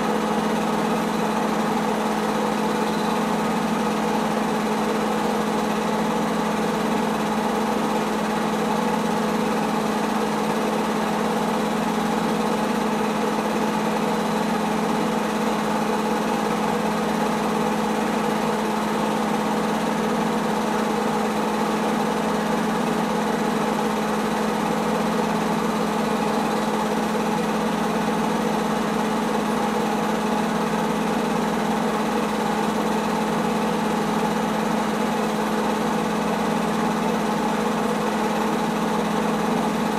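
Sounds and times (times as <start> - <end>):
film projector motor whir: 0.0 - 39.9.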